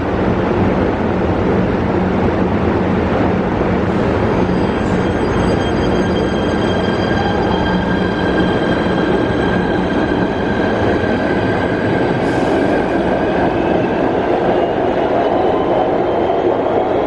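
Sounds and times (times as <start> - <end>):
high train whine: 0.0 - 17.0
train wheels rumbling on rail: 0.0 - 17.0.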